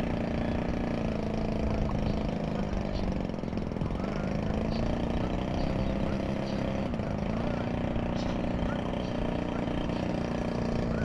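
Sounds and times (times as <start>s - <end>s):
model aircraft engine drone: 0.0s - 11.0s.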